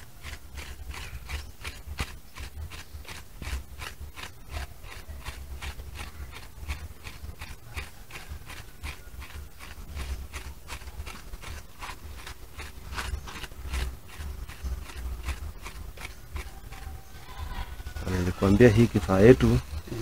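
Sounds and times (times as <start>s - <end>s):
scraping wet clay: 0.0s - 20.0s.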